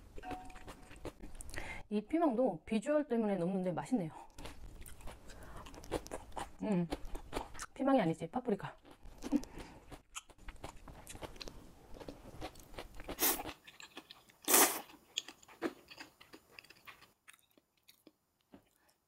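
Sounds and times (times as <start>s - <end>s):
chewing and crunching food: 0.1s - 1.7s, 4.2s - 7.8s, 8.6s - 19.0s.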